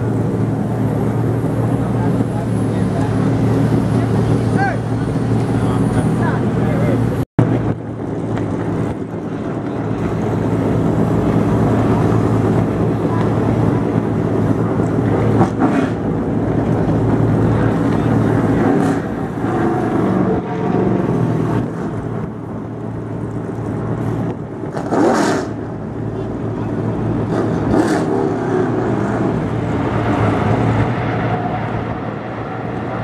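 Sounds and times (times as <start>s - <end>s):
truck engines idling: 0.0s - 33.0s.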